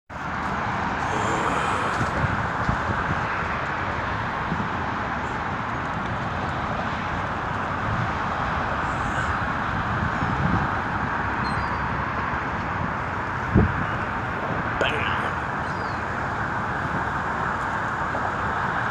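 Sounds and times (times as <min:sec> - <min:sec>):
outdoor background noise: 0:00.1 - 0:18.9.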